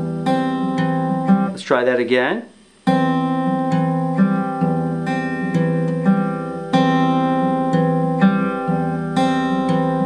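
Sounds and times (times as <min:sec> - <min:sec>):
fingerstyle acoustic guitar: 0:00.0 - 0:01.7, 0:02.7 - 0:10.0.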